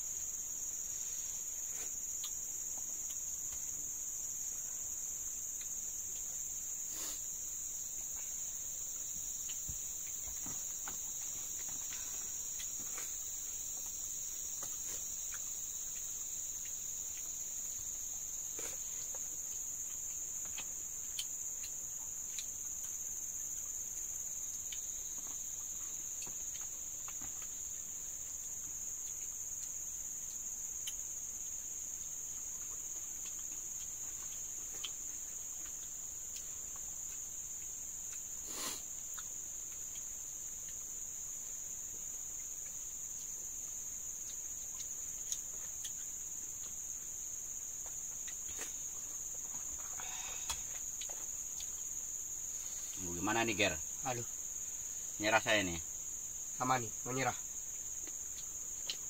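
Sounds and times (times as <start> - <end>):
insects chorus: 0.0 - 59.0.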